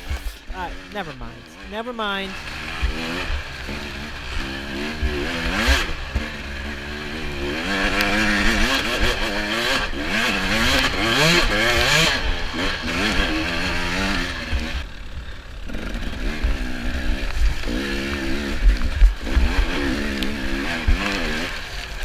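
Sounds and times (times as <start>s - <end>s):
dirt bike engine revving: 2.4s - 14.8s, 15.7s - 21.9s.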